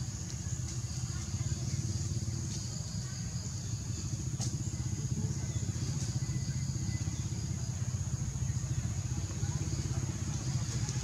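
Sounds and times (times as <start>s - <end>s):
motor running with low rumble: 0.0s - 11.0s.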